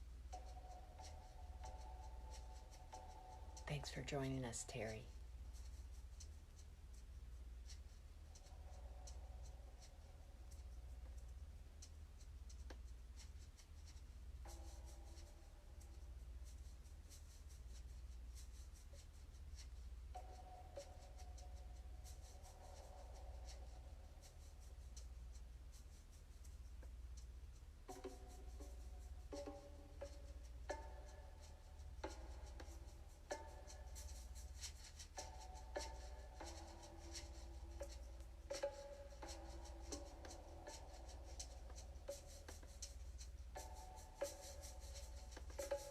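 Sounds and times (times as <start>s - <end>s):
steady low hum: 0.0s - 45.9s
light scratchy ticks: 0.3s - 45.9s.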